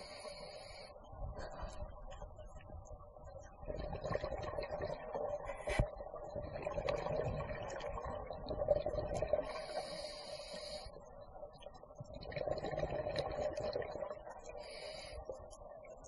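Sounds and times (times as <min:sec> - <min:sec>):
regulator bubbles gurgling underwater: 0:00.0 - 0:16.0.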